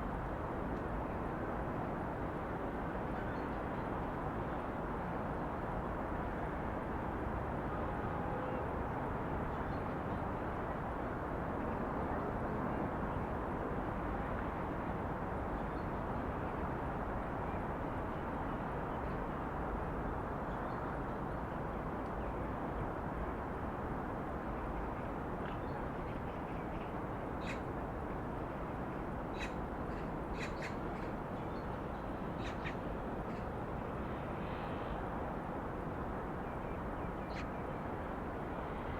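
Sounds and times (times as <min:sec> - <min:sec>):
distant city traffic hum: 0:00.0 - 0:38.9.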